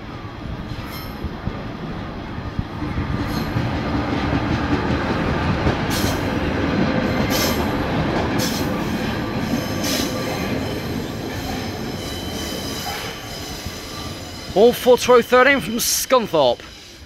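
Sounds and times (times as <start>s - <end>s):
diesel train rumbling past: 0.0s - 17.0s.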